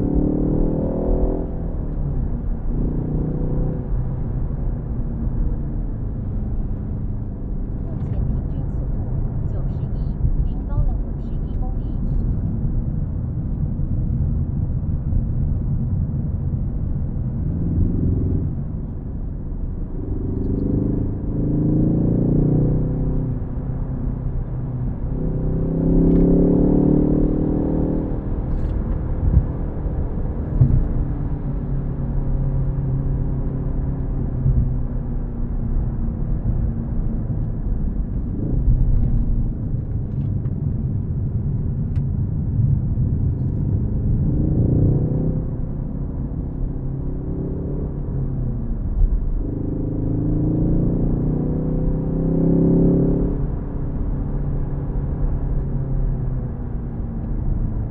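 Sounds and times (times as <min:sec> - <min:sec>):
car engine accelerating: 0:00.0 - 0:57.9
road and tyre noise: 0:00.0 - 0:57.9.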